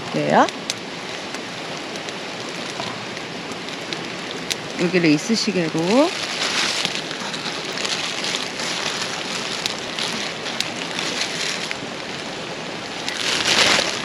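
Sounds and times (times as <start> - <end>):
rushing water hiss: 0.0 - 14.0.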